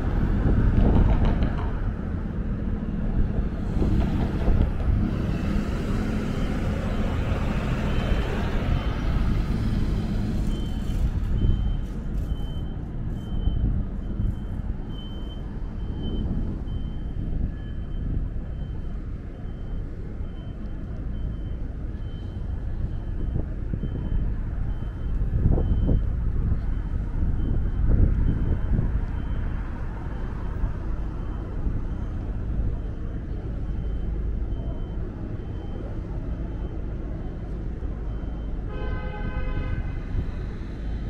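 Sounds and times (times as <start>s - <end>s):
city traffic rumbling: 0.0s - 41.0s.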